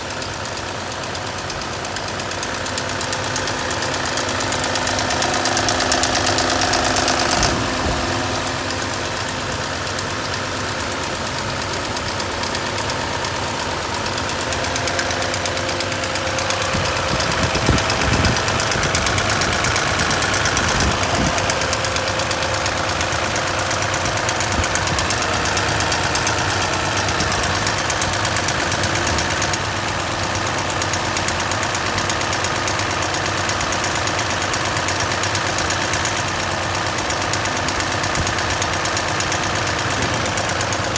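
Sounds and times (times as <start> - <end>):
car engine running: 0.0 - 40.9
valve train ticking: 0.0 - 40.9.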